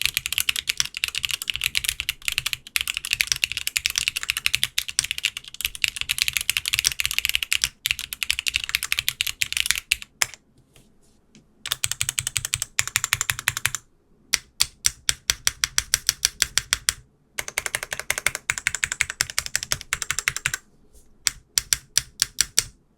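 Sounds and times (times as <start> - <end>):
mechanical keyboard typing: 0.0 - 10.4, 11.7 - 13.8, 14.4 - 20.6, 21.2 - 22.8.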